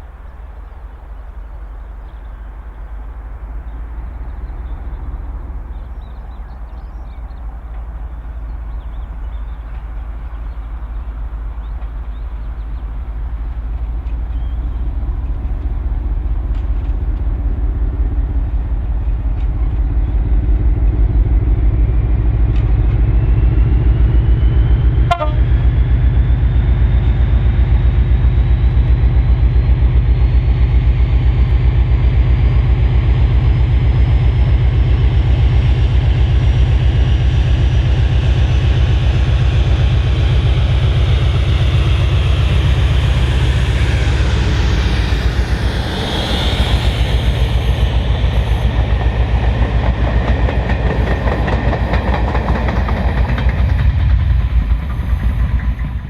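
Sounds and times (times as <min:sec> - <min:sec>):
locomotive engine throbbing: 0:00.0 - 0:56.0
rising whine: 0:00.0 - 0:56.0.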